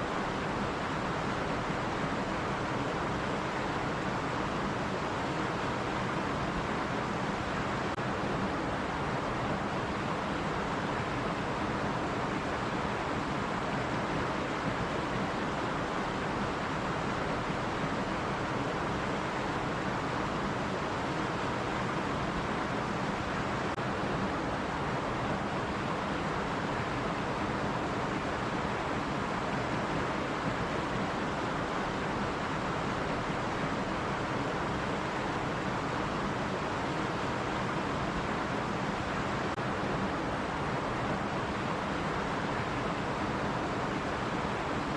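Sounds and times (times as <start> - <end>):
stream water rushing over rocks: 0.0 - 44.9.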